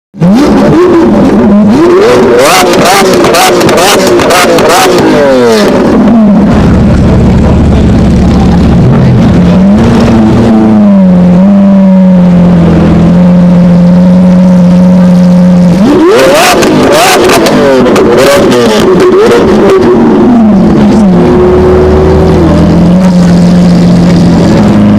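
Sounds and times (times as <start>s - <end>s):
car engine revving: 0.2s - 24.9s.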